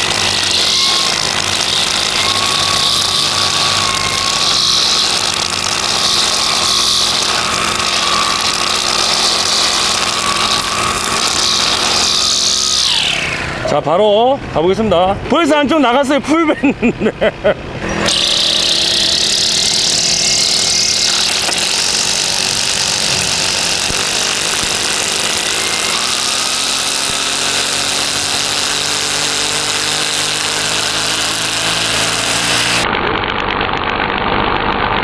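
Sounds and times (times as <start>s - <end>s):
trimmer line slapping stone: 0.0s - 13.4s, 18.0s - 33.6s
brush cutter engine: 0.0s - 14.0s, 17.4s - 35.0s.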